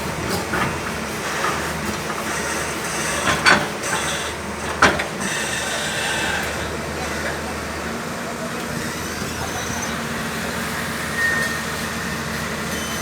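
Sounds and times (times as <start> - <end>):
construction machinery noise: 0.0 - 13.0.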